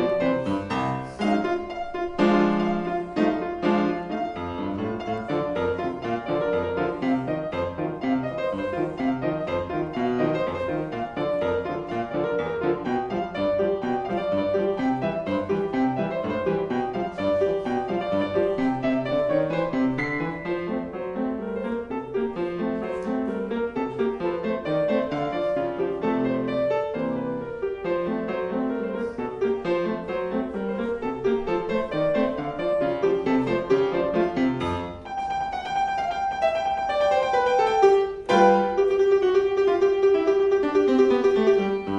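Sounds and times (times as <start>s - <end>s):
grand piano playing: 0.0s - 41.9s.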